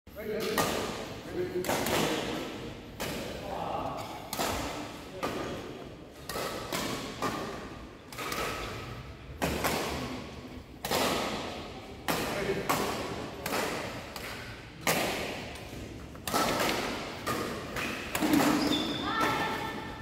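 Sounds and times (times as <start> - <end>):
racquets hitting shuttlecock: 0.4 - 20.0.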